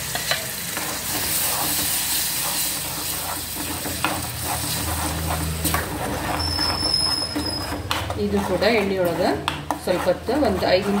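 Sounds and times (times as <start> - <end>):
paste sizzling in oil: 0.0 - 11.0
metal ladle scraping pan: 0.1 - 11.0.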